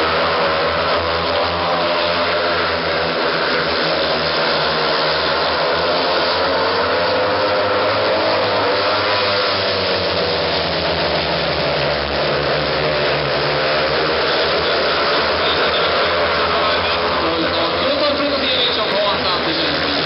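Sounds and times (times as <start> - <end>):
motorcycle engines racing: 0.0 - 20.0.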